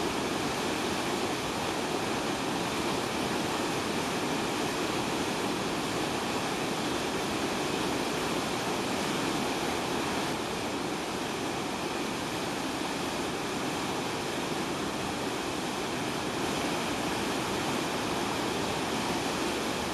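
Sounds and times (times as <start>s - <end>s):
river rushing over rocks: 0.0s - 19.9s.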